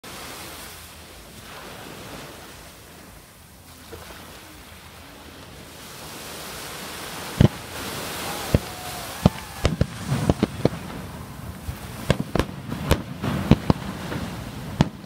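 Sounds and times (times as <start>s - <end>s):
surf washing onto beach: 0.0s - 15.0s.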